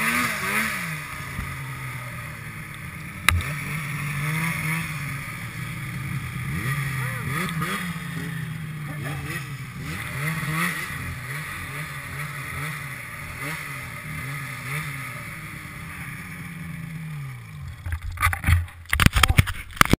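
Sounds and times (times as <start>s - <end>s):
snowmobile engine revving: 0.0s - 17.8s.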